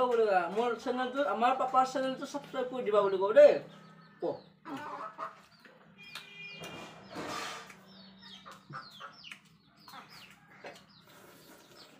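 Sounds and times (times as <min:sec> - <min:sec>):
chickens clucking and peeping: 0:00.0 - 0:11.9.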